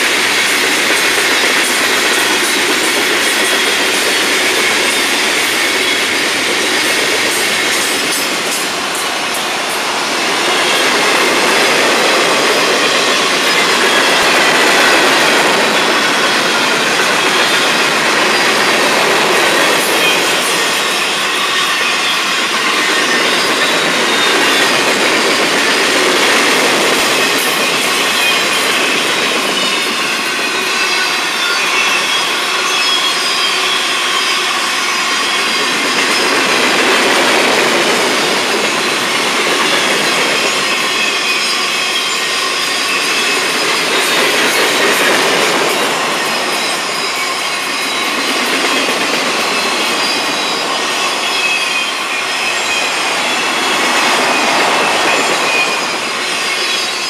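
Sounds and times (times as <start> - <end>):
freight train wheels rumbling: 0.0 - 57.0
faint high wheel squeal: 10.2 - 25.7, 26.4 - 57.0.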